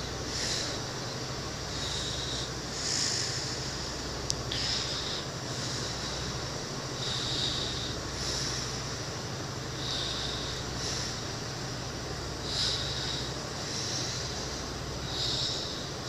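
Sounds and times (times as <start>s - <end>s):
air hiss: 0.0s - 16.0s
diesel train idling: 0.0s - 16.0s.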